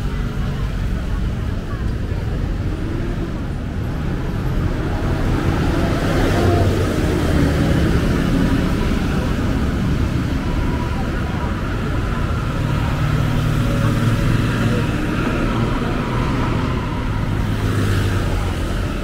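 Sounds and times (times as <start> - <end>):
passers-by talking: 0.0 - 19.0
road traffic: 0.0 - 19.0.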